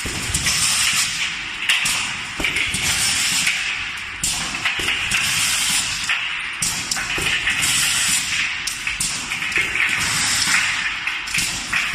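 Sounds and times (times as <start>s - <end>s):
machine clicks and knocks: 0.0s - 11.9s.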